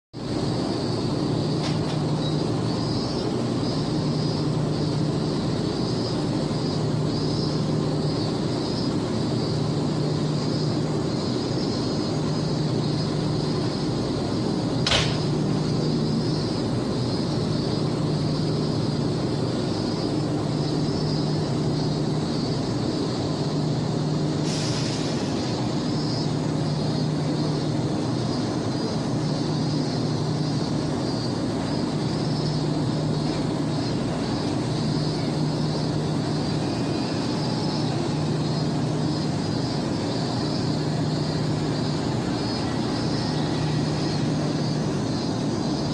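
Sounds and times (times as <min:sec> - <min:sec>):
constant hiss: 0:00.2 - 0:45.9
vehicle running noise: 0:00.2 - 0:45.9.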